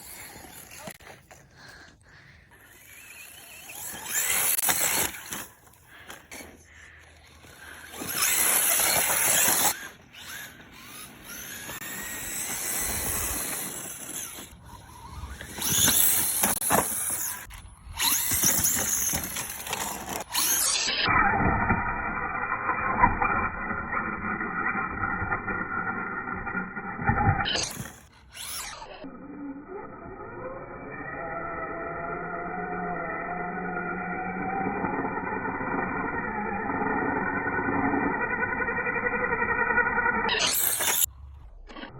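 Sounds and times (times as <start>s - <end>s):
toy car motor whining: 0.0s - 41.8s.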